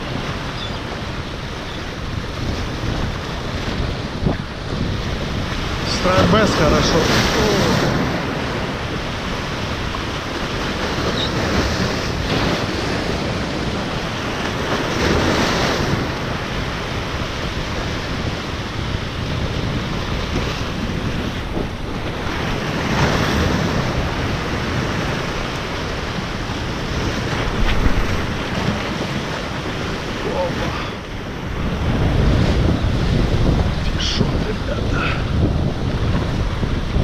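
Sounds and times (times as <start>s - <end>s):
ocean surf breaking over rocks: 0.0s - 37.0s
wind buffeting microphone: 0.0s - 37.0s.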